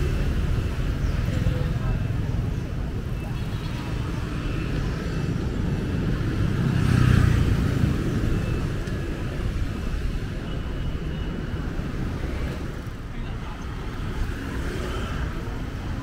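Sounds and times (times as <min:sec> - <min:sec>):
cars and motorbikes passing: 0:00.0 - 0:16.0
low traffic rumble: 0:00.0 - 0:16.0.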